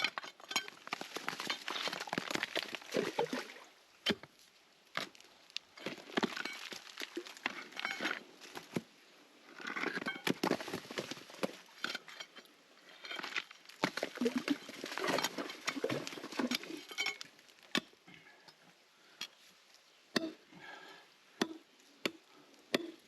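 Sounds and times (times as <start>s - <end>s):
hand tools scraping dirt and stone: 0.0s - 3.4s, 4.0s - 23.0s.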